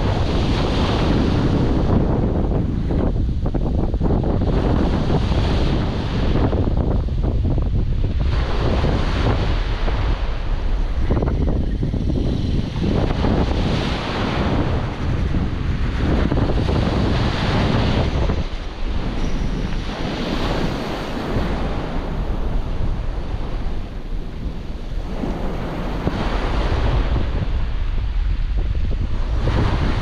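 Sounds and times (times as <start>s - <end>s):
surf washing up a pebbly beach: 0.0s - 30.0s
wind buffeting microphone: 0.0s - 30.0s.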